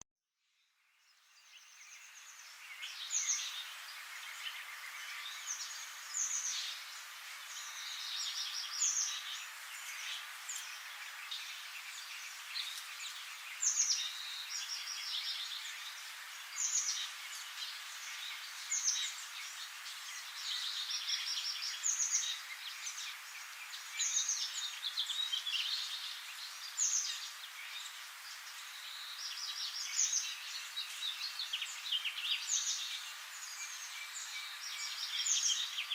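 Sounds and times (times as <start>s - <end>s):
faint hiss: 0.7s - 35.9s
songbirds chirping and trilling: 0.8s - 35.9s.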